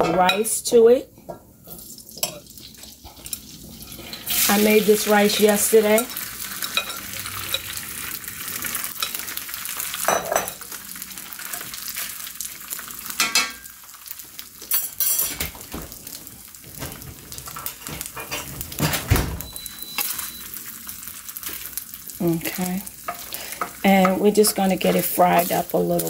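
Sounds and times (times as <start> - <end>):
rice sizzling in oil: 1.6 - 18.8, 19.5 - 26.0.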